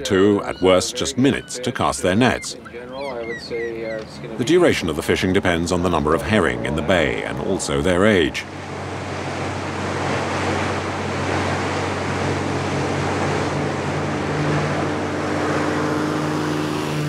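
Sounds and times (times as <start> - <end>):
boat engines droning: 0.0 - 17.0
floatplane engine drone: 0.0 - 17.0
water rushing past hulls: 0.0 - 17.0.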